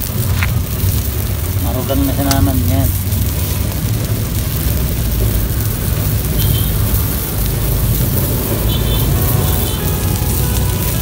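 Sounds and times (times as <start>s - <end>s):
crackling wood fire: 0.0s - 11.0s
fish sizzling on a metal plate: 0.0s - 11.0s
loud steady low rumble: 0.0s - 11.0s.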